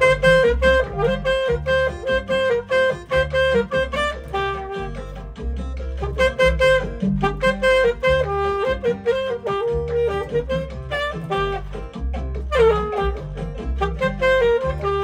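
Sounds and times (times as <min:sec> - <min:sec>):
alto saxophone jazz melody: 0:00.0 - 0:15.0
backing track with bass line: 0:00.0 - 0:15.0.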